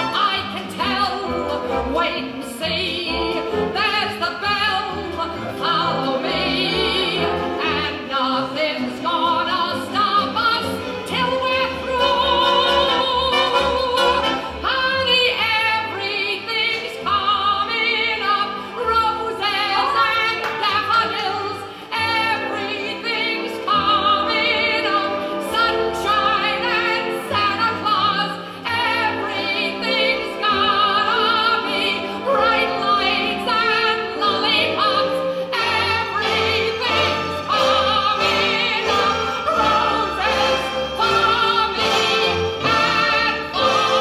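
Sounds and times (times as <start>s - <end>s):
operatic singing: 0.0s - 44.0s
orchestral accompaniment: 0.0s - 44.0s.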